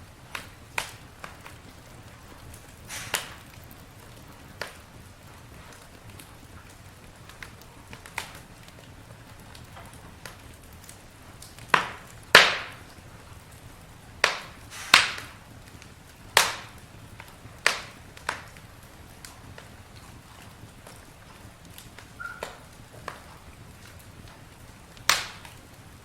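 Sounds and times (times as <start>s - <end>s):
burning wood cracking and popping: 0.0s - 26.0s
hiss of flames: 0.0s - 26.0s.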